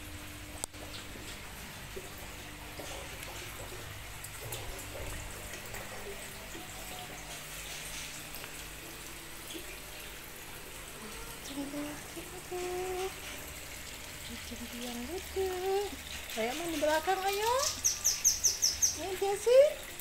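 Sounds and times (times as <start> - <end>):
water trickling and pouring: 0.0 - 20.0.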